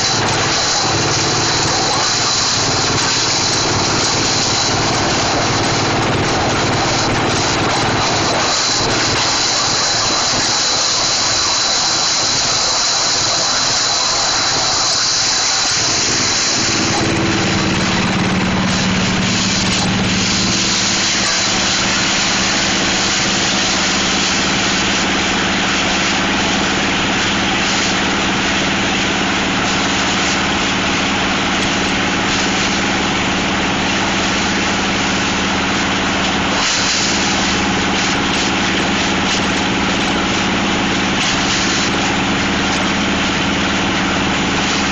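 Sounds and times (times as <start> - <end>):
motor hum: 0.0 - 44.9
shredder machine running: 0.0 - 44.9.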